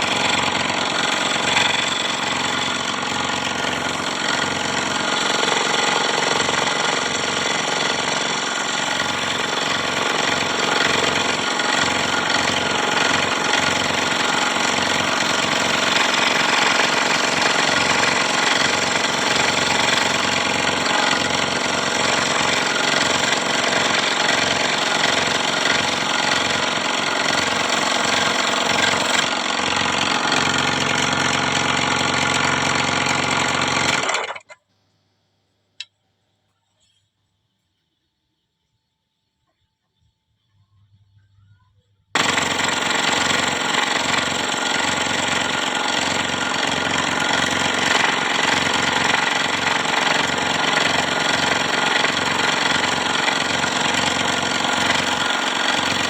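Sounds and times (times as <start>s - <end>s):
scroll saw cutting wood: 0.0s - 34.4s, 42.2s - 56.0s.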